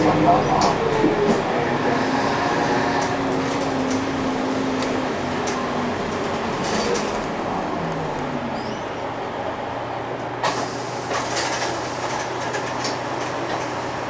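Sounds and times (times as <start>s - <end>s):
road noise: 0.0s - 11.3s
bus diesel engine humming: 0.0s - 14.0s.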